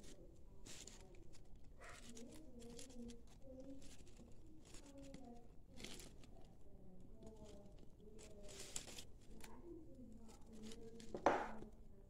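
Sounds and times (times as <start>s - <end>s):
rustling and crinkling clicks: 0.0s - 12.0s.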